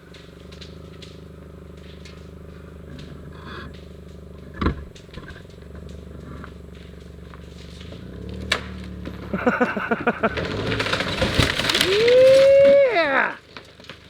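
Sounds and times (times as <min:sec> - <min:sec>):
building structure cracking: 0:00.0 - 0:14.0
car engine revving: 0:00.0 - 0:14.0.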